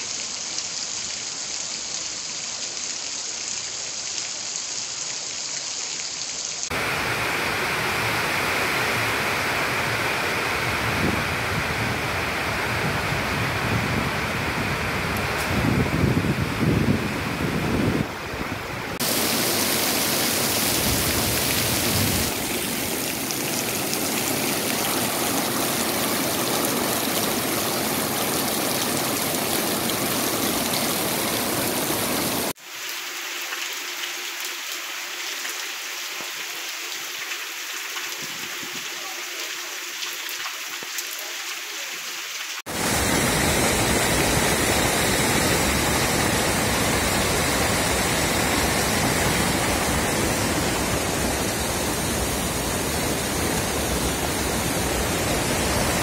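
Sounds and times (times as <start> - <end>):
heavy rain hissing: 0.0 - 35.2, 42.6 - 56.0
thinner rain: 0.0 - 56.0
floodwater rushing: 6.0 - 56.0.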